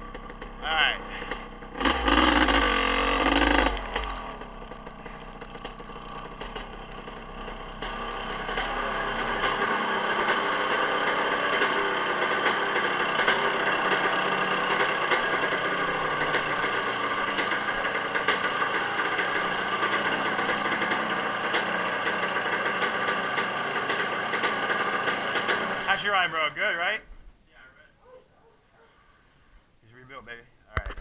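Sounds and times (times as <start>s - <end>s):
dirt bike engine idling: 0.0s - 27.0s.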